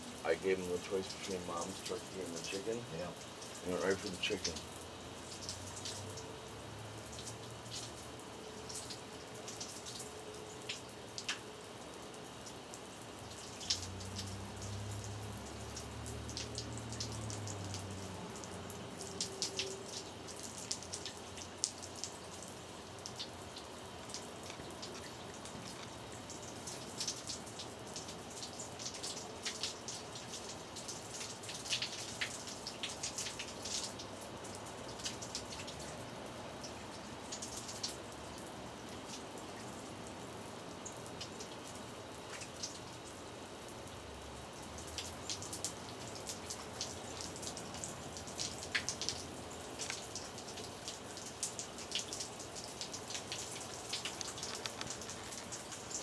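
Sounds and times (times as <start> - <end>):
water running and splashing: 0.0 - 56.0
sharp drip ticks: 0.3 - 56.0.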